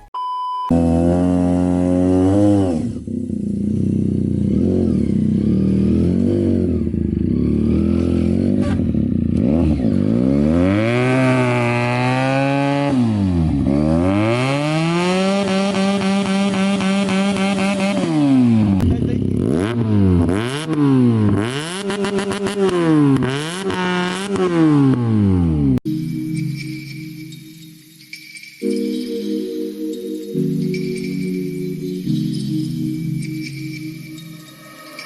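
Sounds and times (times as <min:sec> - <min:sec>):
motorcycle engine revving: 0:00.7 - 0:27.9, 0:30.7 - 0:35.0.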